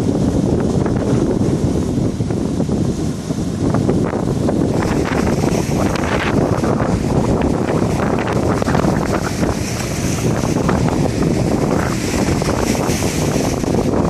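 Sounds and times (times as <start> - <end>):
waves washing: 0.0 - 14.0
wind buffeting microphone: 0.0 - 14.0.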